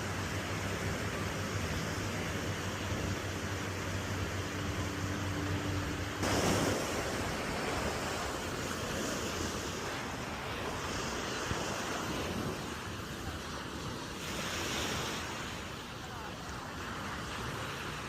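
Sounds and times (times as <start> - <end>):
low steady hum: 0.0 - 17.9
ocean surf washing onto beach: 0.0 - 18.0.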